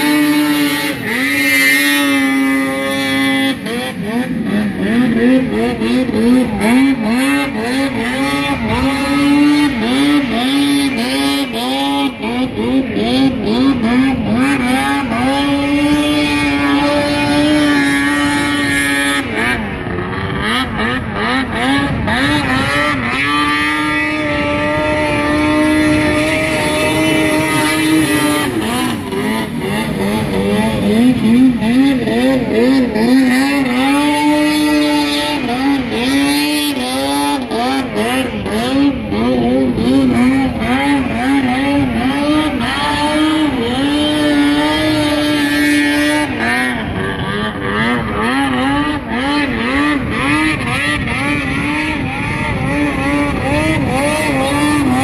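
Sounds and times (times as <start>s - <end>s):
snowmobile engines revving: 0.0s - 55.0s.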